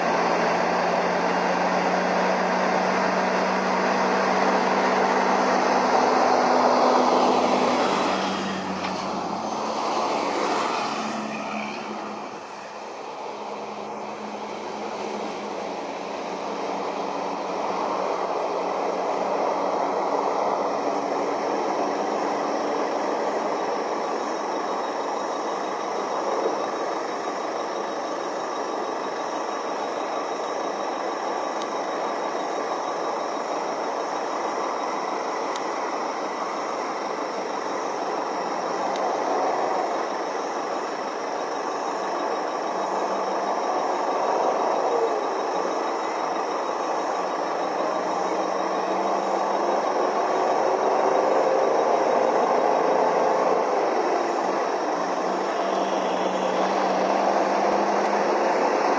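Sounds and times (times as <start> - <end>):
truck engine running: 0.0 - 10.5, 11.6 - 58.9.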